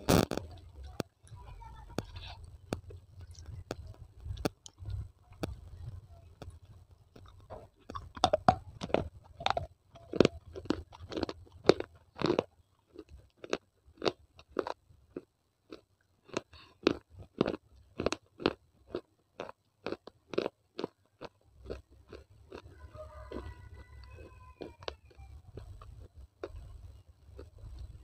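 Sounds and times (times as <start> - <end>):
chewing crunchy clay: 0.0 - 28.0.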